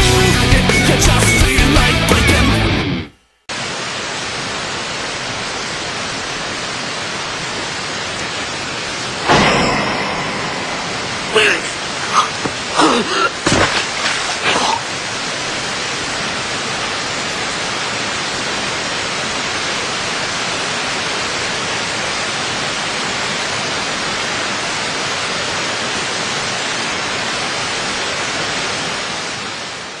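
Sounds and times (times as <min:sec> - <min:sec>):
heavy rain hissing: 0:03.5 - 0:30.0.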